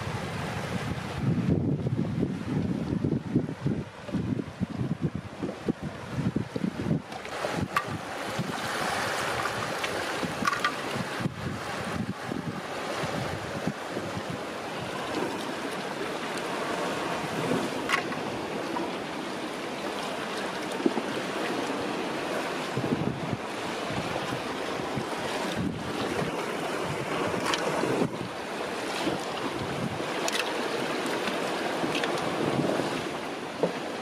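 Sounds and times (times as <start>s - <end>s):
wind buffeting microphone: 0.0s - 15.6s, 20.8s - 31.0s, 31.7s - 34.0s
seawater washing over rocks: 0.0s - 34.0s.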